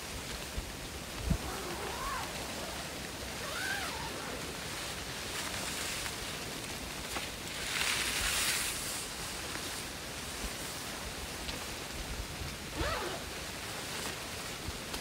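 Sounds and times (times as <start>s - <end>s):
rain falling on a tent: 0.0s - 15.0s.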